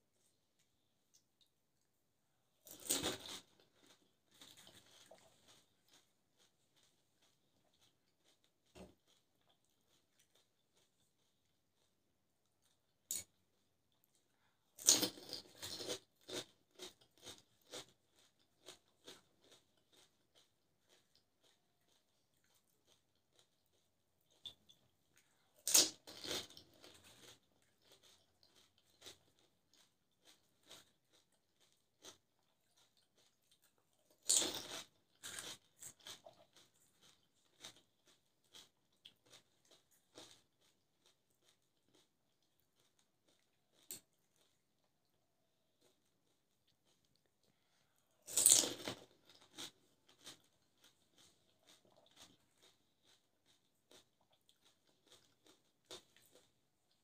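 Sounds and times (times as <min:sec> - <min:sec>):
chewing crunches: 0:02.6 - 0:57.0.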